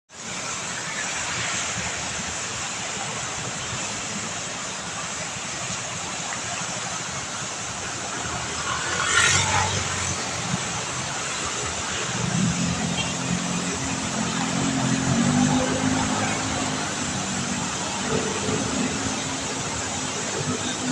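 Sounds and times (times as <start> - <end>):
fountain water splashing: 0.1 - 20.9.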